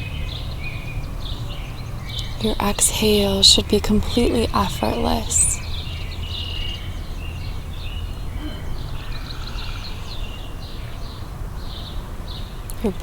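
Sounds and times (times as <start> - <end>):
birds chirping: 0.0 - 13.0
low background hum: 0.0 - 13.0.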